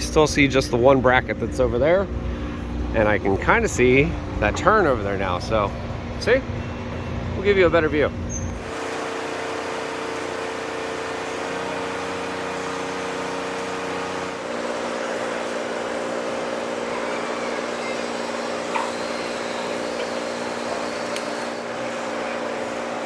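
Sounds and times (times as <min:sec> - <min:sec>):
road and air noise: 0:00.0 - 0:23.0.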